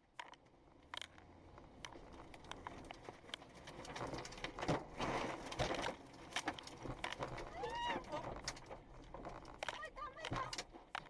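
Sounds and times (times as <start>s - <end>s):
rain and debris hitting car: 0.0s - 11.0s.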